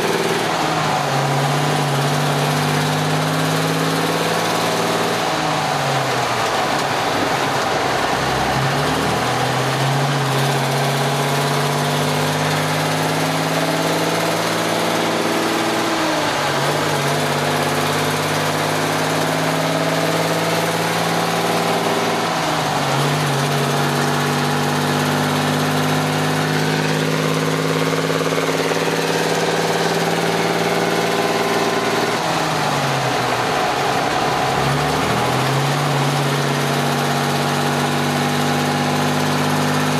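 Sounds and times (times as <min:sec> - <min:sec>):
diesel truck engine at road speed: 0:00.0 - 0:39.9.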